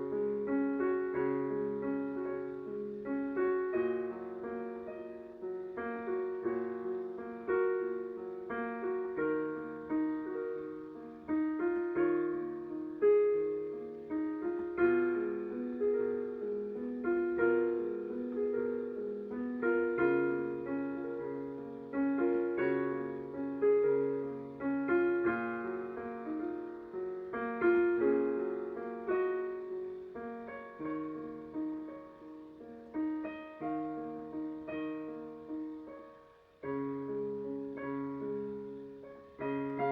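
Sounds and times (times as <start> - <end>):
solo piano playing slowly: 0.0 - 39.9.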